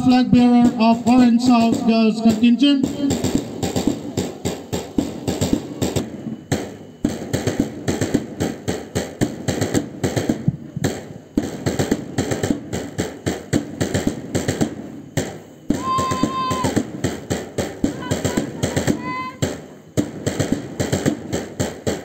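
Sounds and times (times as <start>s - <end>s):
marching drums beating: 0.0s - 22.0s.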